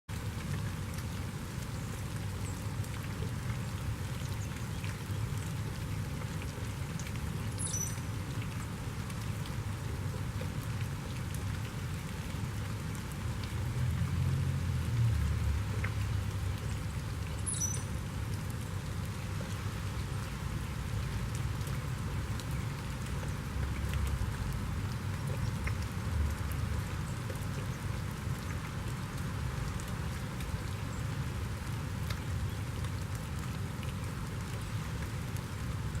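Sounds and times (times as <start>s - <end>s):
rain pattering: 0.1s - 36.0s
water drips ticking: 0.1s - 36.0s.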